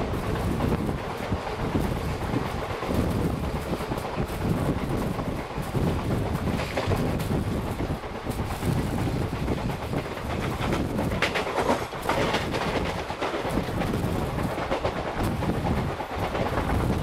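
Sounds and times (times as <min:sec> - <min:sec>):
rail clacks: 0:00.0 - 0:17.0
train wheels rumbling on rails: 0:00.0 - 0:17.0.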